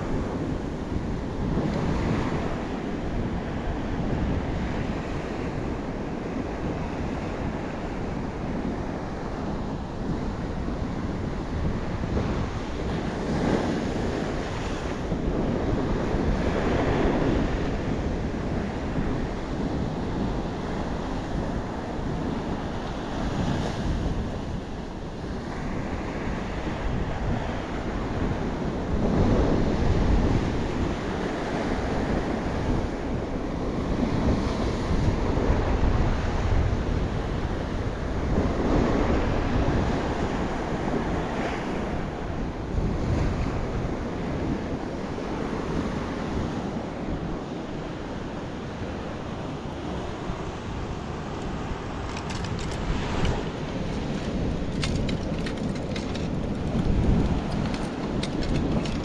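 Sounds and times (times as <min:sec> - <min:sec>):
ocean surf breaking on beach: 0:00.0 - 0:59.0
wind buffeting microphone: 0:00.0 - 0:59.0.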